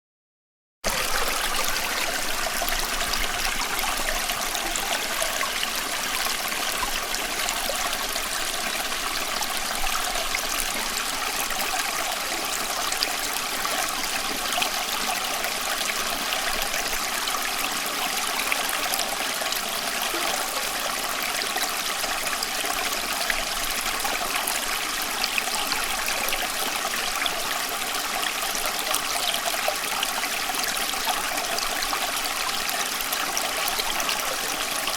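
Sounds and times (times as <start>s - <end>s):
stream babbling over stones: 0.8s - 34.9s.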